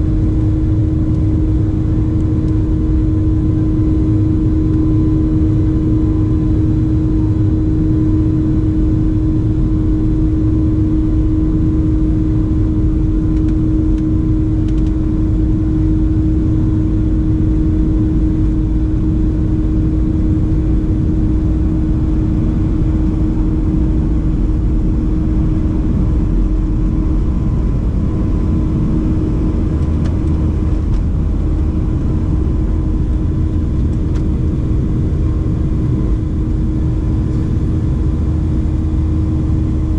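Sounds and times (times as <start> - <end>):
jet engines heard from cabin: 0.0 - 39.9.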